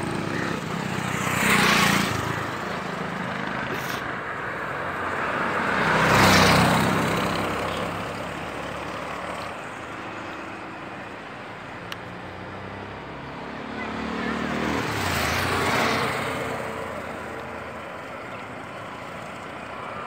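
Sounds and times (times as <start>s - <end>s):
road and engine noise: 0.0s - 20.0s
vehicles passing whoosh: 0.0s - 20.0s.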